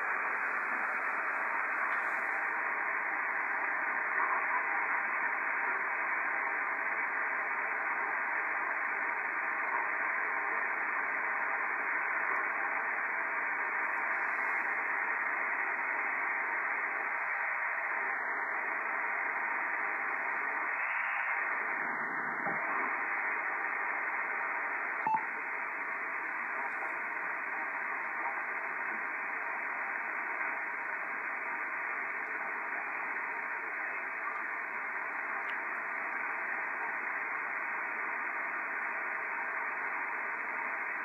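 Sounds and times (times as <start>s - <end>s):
radio static hiss: 0.0s - 41.0s.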